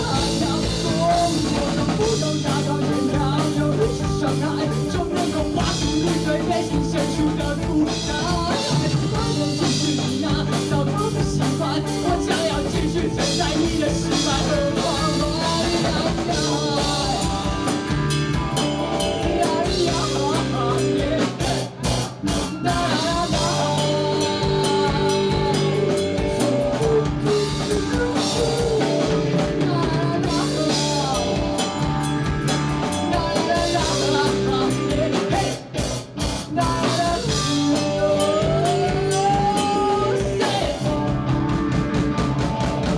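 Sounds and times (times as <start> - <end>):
man singing: 0.0 - 31.9, 32.8 - 42.0
rock band playing: 0.0 - 42.9.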